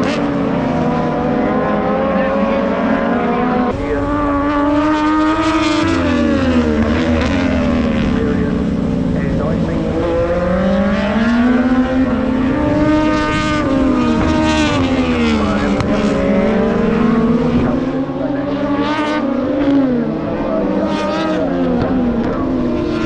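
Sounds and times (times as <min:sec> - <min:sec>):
racing motorcycles revving hard: 0:00.0 - 0:23.0.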